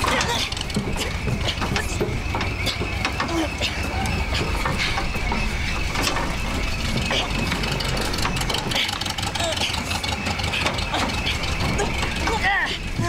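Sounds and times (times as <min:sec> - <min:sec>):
low engine rumble: 0:00.0 - 0:13.0
machinery clicks and rattles: 0:00.0 - 0:13.0.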